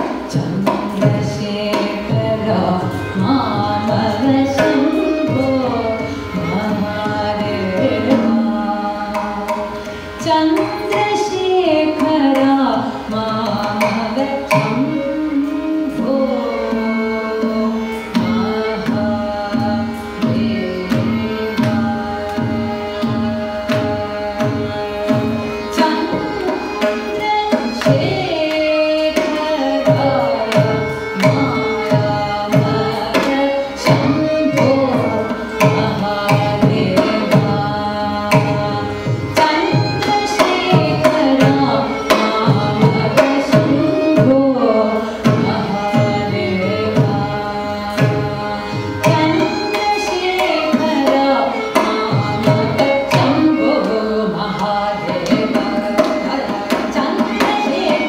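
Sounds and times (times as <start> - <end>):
violin: 0.0 - 58.0
woman singing: 0.0 - 58.0.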